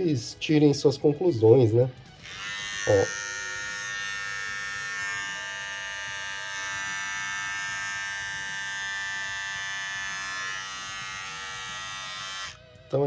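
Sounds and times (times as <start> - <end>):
electric beard trimmer buzzing: 2.2 - 12.6.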